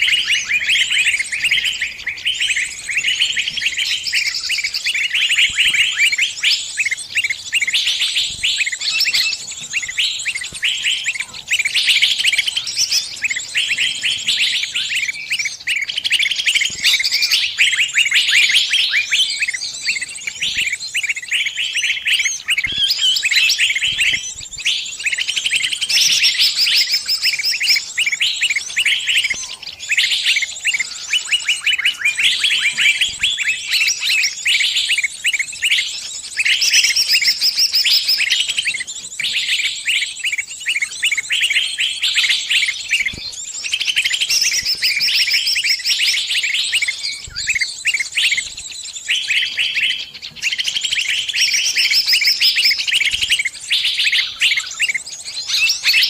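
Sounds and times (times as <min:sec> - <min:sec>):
songbird distress chirps: 0:00.0 - 0:56.0.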